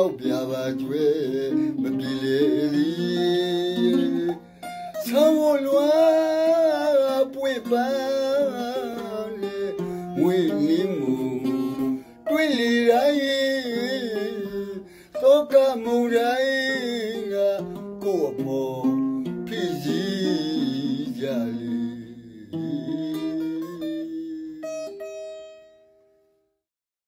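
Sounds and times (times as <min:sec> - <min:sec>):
man singing with vibrato: 0:00.0 - 0:25.4
plucked mandolin: 0:00.0 - 0:26.1.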